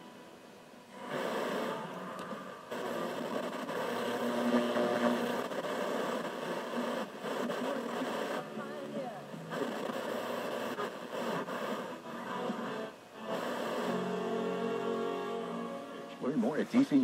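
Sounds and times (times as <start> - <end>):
radio receiver hiss: 0.0 - 17.0.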